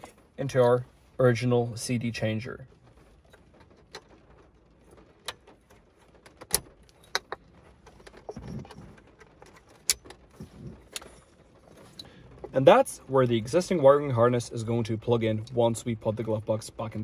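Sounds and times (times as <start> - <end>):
cables rustling: 0.0 - 1.4, 2.8 - 15.8.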